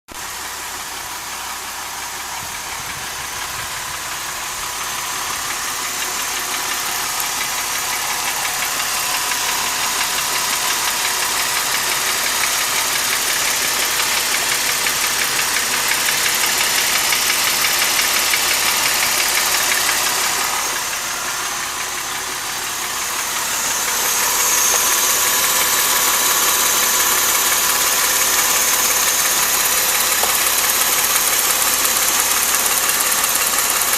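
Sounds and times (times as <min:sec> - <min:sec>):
car engine with knocking tick: 0:00.1 - 0:33.9.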